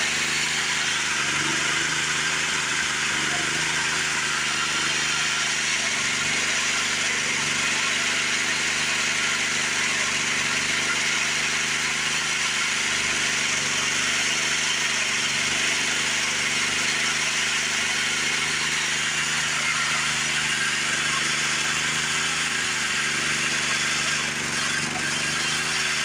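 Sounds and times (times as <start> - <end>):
sawmill engine hum: 0.0 - 26.0.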